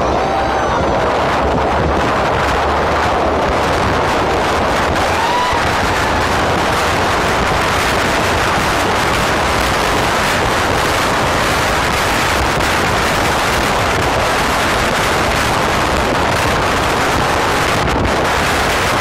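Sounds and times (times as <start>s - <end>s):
tyre and wind noise: 0.0s - 19.0s.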